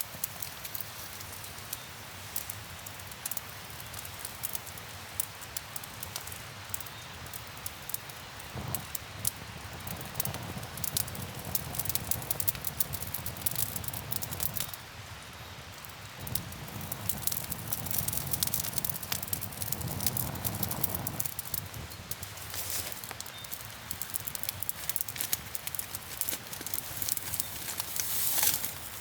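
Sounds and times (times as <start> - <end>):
campfire wood crackling: 0.0 - 29.0.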